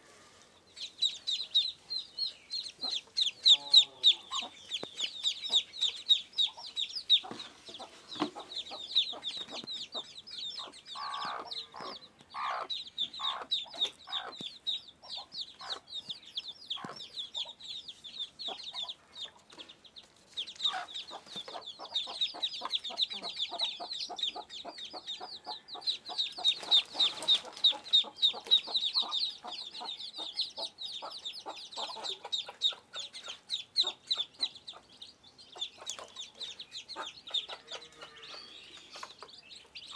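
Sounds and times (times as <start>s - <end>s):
ducklings peeping: 0.5s - 39.9s.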